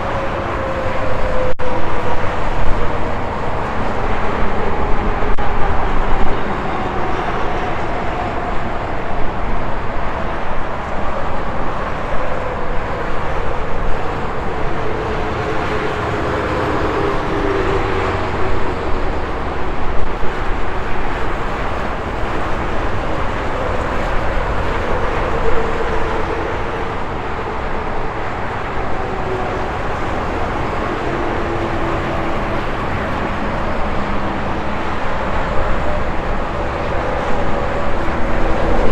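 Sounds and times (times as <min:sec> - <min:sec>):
highway traffic passing: 0:00.0 - 0:38.9.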